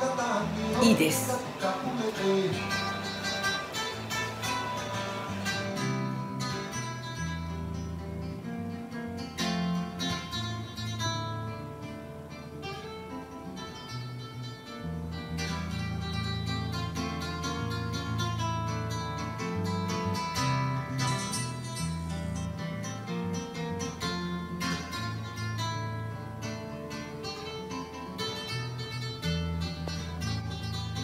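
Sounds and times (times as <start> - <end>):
acoustic guitar plucking: 0.0 - 31.0.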